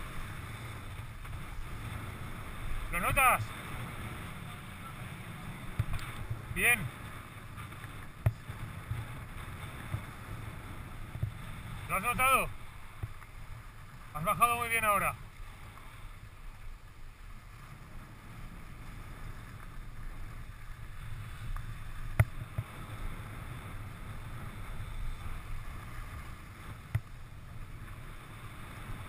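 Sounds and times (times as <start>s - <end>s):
skis sliding on snow: 0.0s - 29.0s
wind buffeting microphone: 0.0s - 29.0s.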